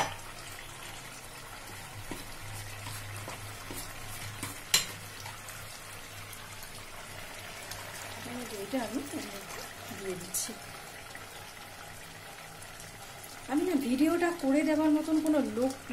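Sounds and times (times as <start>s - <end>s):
curry bubbling and sizzling: 0.0s - 15.9s.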